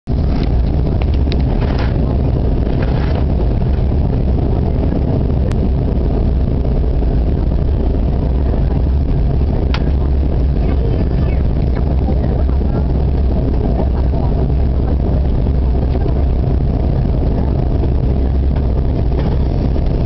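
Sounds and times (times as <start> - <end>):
jet cabin roar: 0.1 - 20.0.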